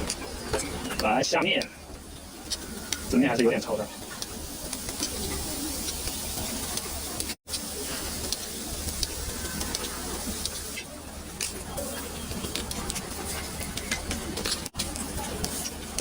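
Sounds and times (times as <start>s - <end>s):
batter sizzling in a pan: 0.0s - 16.0s.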